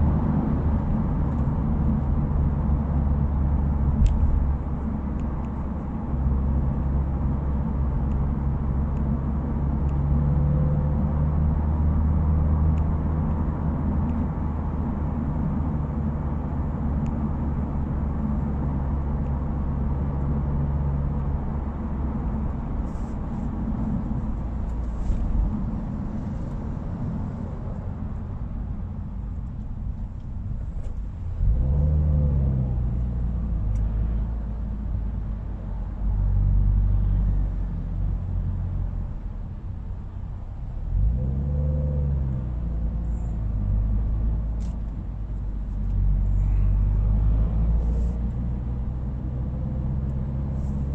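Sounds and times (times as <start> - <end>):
car engine and exhaust droning: 0.0 - 50.9.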